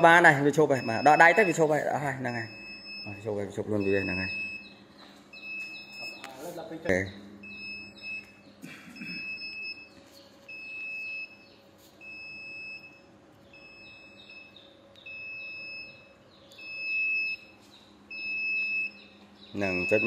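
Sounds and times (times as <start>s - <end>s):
electronic beeping: 0.0s - 6.5s, 7.4s - 20.0s.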